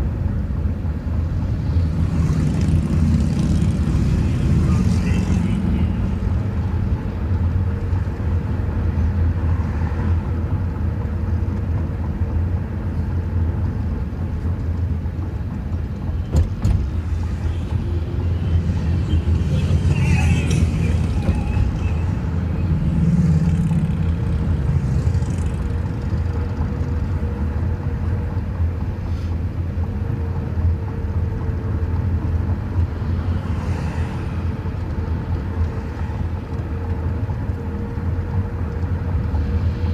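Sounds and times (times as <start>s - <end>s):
engine and traffic rumble: 0.0s - 39.9s
motorcycle engines running: 0.5s - 39.9s.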